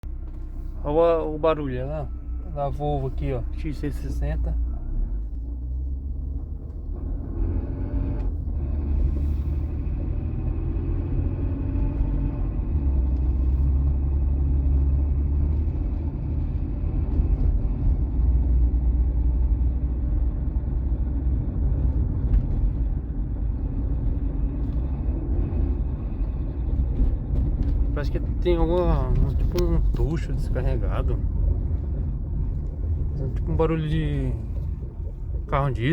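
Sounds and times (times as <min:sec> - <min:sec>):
car engine running loudly: 0:00.1 - 0:35.9.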